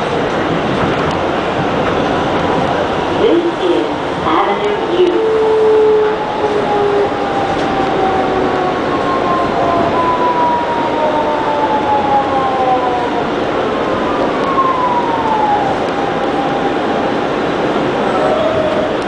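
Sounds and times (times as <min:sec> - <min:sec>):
subway traction motors whining: 0:00.0 - 0:19.0.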